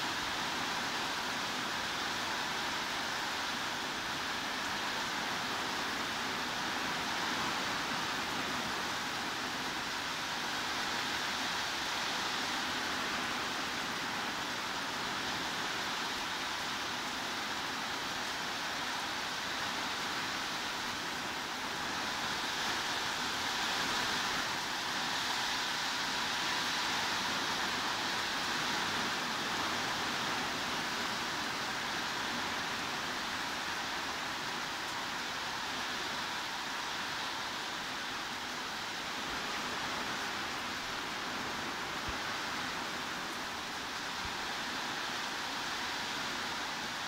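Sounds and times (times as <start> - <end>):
heavy rain hissing: 0.0 - 47.0.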